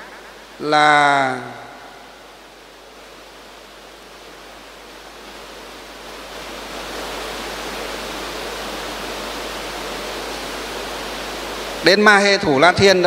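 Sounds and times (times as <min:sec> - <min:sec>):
steady rushing hiss: 0:00.0 - 0:13.0.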